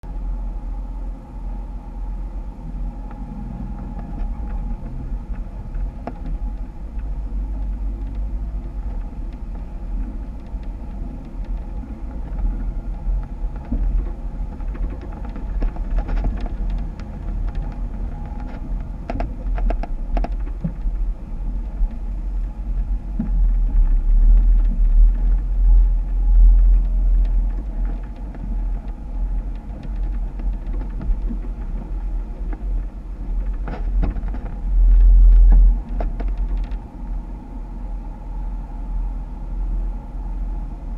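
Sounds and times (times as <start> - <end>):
engine low rumble: 0.0 - 40.9.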